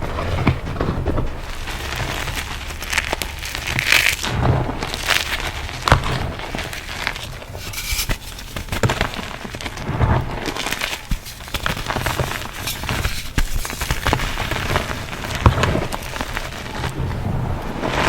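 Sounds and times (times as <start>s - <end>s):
chalk blocks crunching: 0.0s - 17.2s.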